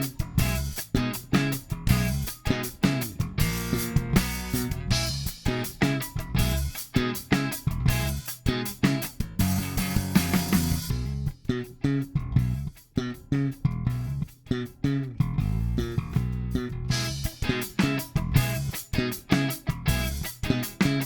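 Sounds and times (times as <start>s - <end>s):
plucked electric bass: 0.0s - 21.0s.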